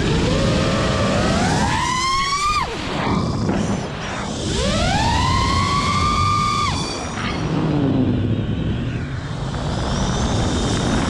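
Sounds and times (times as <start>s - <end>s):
drone motors whining: 0.0s - 11.0s
steady rushing noise: 0.0s - 11.0s.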